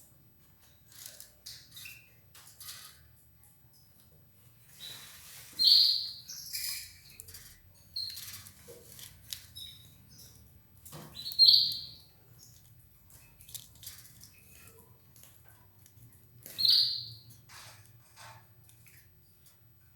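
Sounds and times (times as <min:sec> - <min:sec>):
canary chirping: 0:00.7 - 0:19.6.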